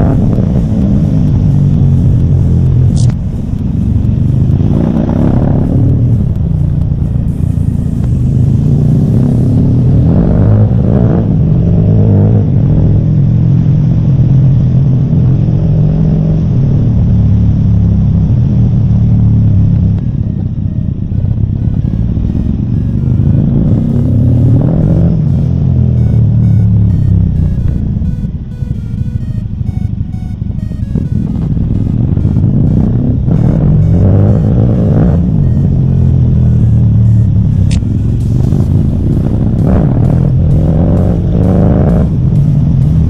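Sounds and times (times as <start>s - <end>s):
vehicle engine hum: 0.0s - 43.0s.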